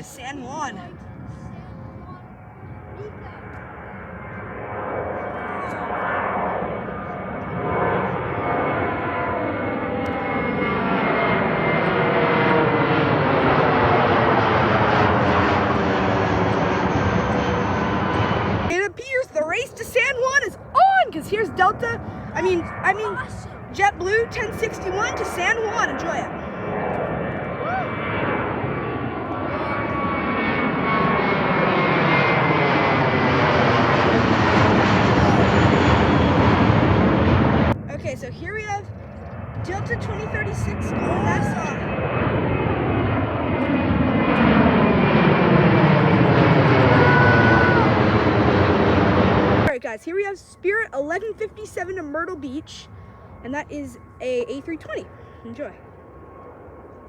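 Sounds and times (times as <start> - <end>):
jet engines rushing with whine: 0.0 - 57.0.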